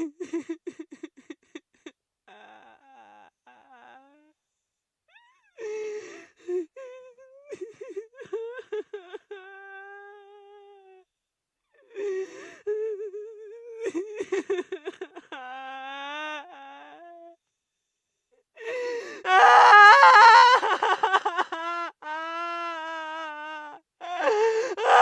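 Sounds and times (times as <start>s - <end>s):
woman sobbing and wailing: 0.0s - 4.4s, 5.2s - 11.0s, 11.8s - 17.4s, 18.6s - 25.0s.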